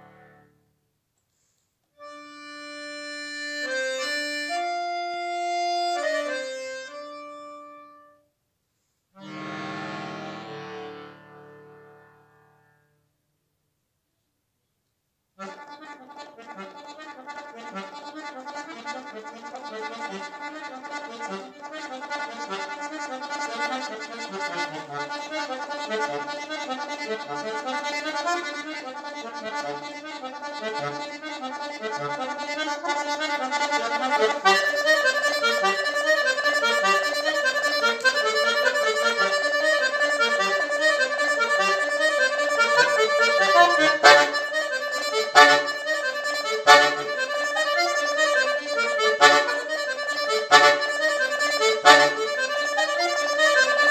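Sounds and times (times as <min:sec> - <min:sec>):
solo button accordion playing: 0:00.0 - 0:00.6, 0:02.0 - 0:08.2, 0:09.2 - 0:13.0, 0:15.4 - 0:53.9.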